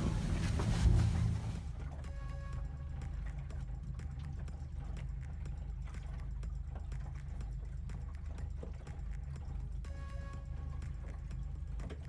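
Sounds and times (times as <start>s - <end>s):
boat engine hum: 0.0s - 12.0s.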